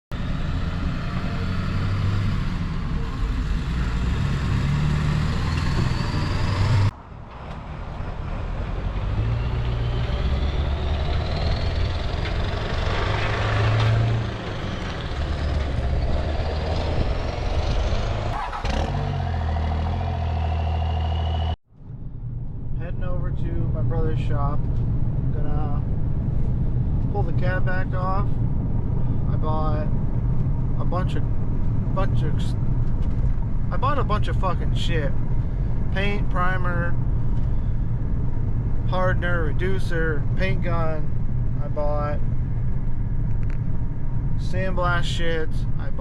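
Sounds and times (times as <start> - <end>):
high turbo whine: 0.2 - 46.0.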